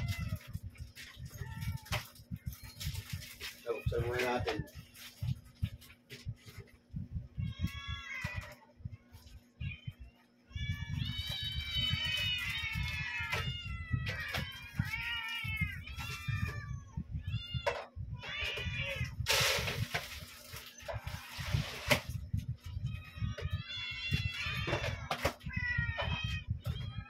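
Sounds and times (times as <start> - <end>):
cats meowing: 0.0 - 27.0.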